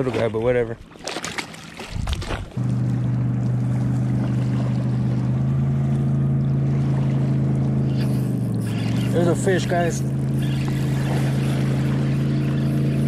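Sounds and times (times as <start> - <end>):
water splashes: 0.0 - 13.0
steady engine hum: 1.5 - 13.0.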